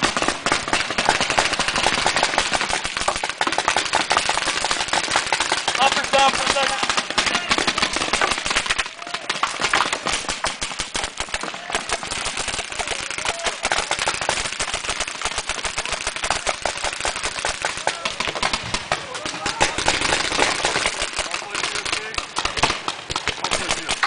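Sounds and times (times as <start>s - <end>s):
paintball markers firing: 0.0s - 24.0s.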